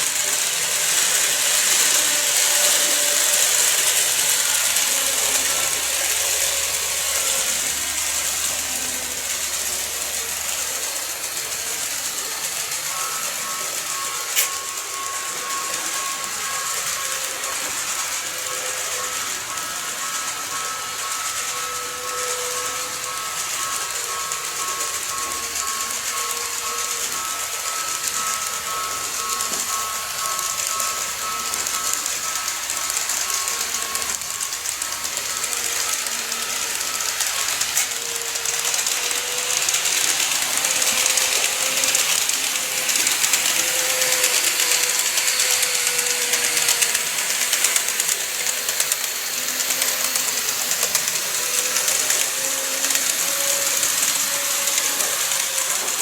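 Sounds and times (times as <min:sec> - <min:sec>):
model train wheels clicking on rails: 0:00.0 - 0:56.0
motor whining: 0:00.0 - 0:56.0.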